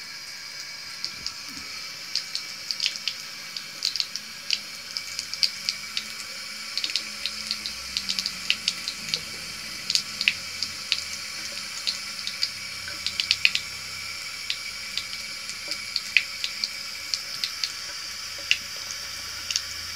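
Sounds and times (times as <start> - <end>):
tap water running into sink: 0.0 - 19.9
kitten lapping water: 1.0 - 19.9.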